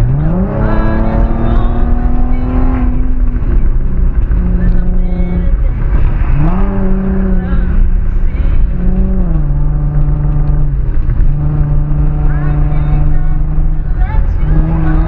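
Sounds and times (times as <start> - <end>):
raspy car exhaust drone: 0.0 - 15.0.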